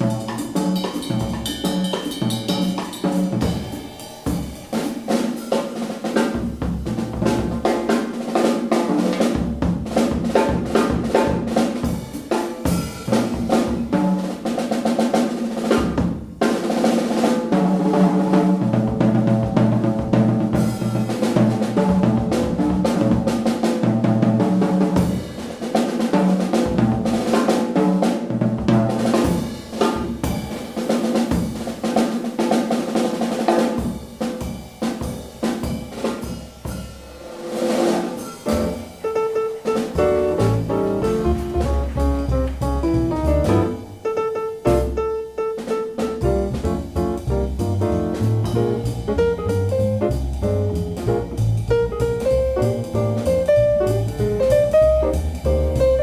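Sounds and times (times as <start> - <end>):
jazz drum solo: 0.0 - 56.0.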